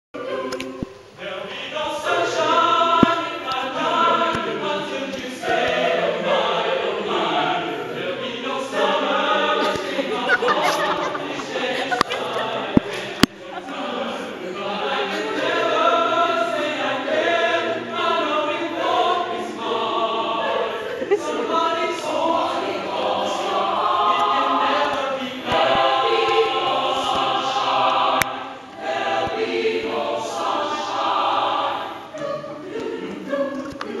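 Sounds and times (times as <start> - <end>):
choir singing unaccompanied: 0.2 - 34.0.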